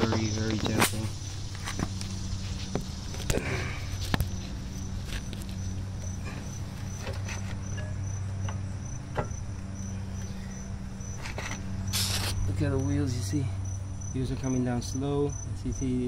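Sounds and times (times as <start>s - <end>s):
insects chirping: 0.0s - 16.0s
steady low hum: 0.0s - 16.0s.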